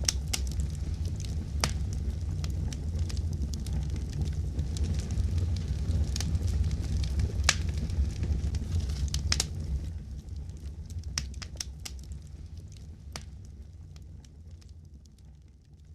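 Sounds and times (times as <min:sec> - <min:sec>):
low rumble of flames: 0:00.0 - 0:15.9
wood fire pops and snaps: 0:00.0 - 0:15.9.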